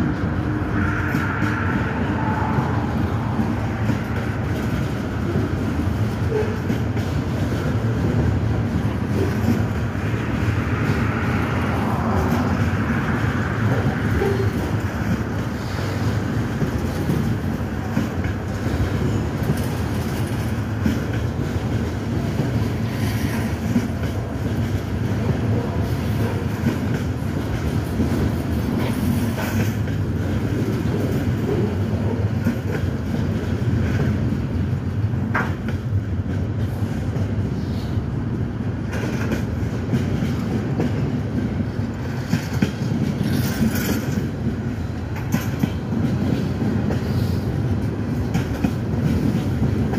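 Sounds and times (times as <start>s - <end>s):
train wheels rumbling on rails: 0.0s - 49.9s
clacks over rail joints: 3.2s - 12.8s, 13.6s - 37.4s, 38.8s - 49.9s.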